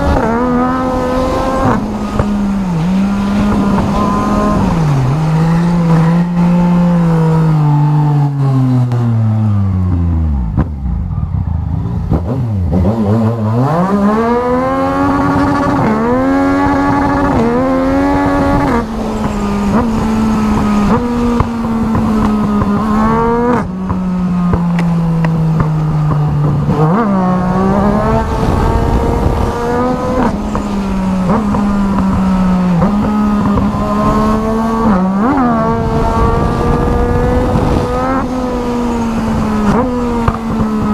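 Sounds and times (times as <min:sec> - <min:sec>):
motorcycle engine accelerating: 0:00.0 - 0:40.9
wind noise rumble: 0:00.0 - 0:40.9.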